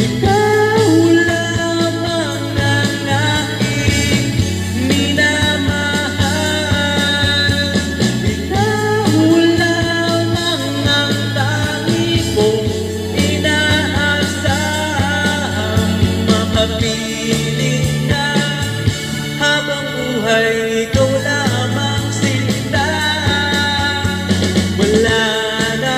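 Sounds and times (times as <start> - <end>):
amplified backing music with beat: 0.0 - 25.9
man singing into a microphone: 0.0 - 25.9.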